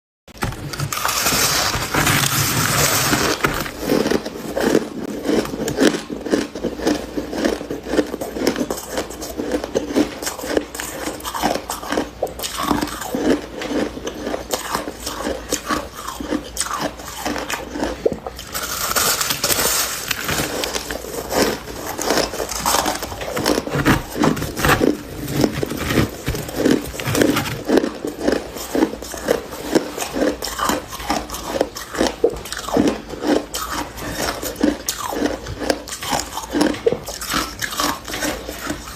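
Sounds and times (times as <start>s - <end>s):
crunchy chewing: 0.8s - 38.9s.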